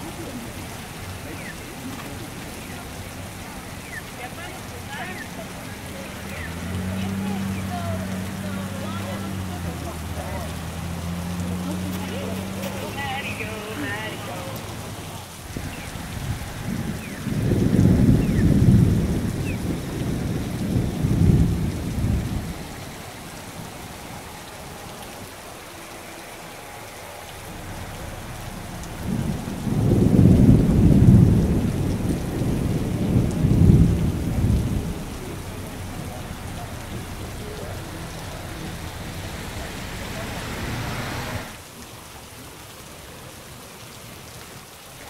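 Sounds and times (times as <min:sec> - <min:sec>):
heavy rain falling: 0:00.0 - 0:45.0
loud low rumbling: 0:05.4 - 0:41.6.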